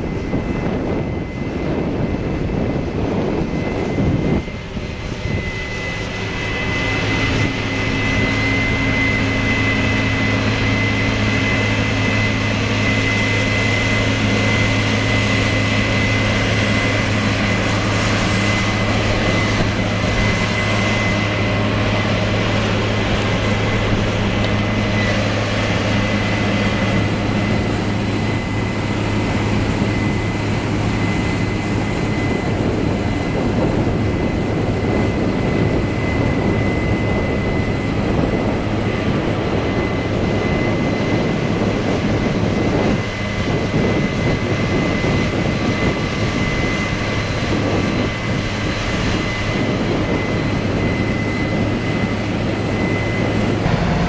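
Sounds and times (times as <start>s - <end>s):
combine harvester running: 0.0s - 54.0s
constant high whine: 0.0s - 54.0s.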